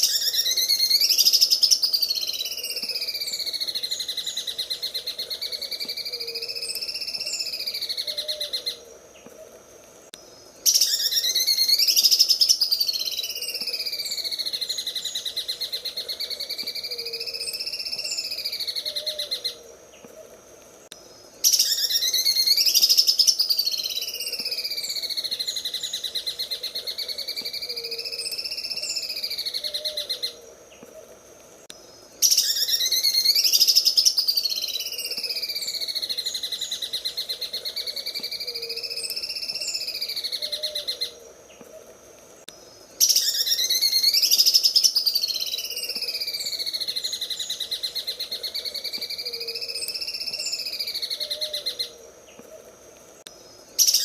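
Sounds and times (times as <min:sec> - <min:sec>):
bird singing rattling trill: 0:00.0 - 0:08.7, 0:10.6 - 0:19.6, 0:21.4 - 0:30.4, 0:32.2 - 0:41.1, 0:43.0 - 0:51.9.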